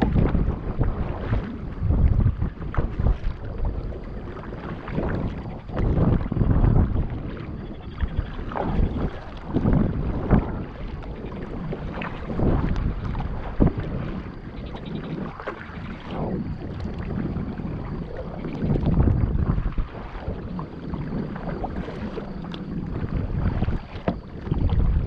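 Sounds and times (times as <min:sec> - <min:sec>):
paddle splashing in water: 0:00.0 - 0:25.0
wind on microphone: 0:00.0 - 0:25.0.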